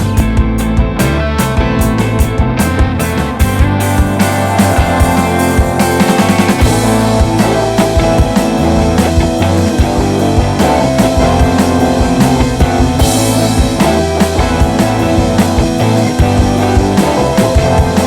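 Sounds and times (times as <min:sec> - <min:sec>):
drum kit beat: 0:00.0 - 0:18.0
rock band music: 0:00.0 - 0:18.0.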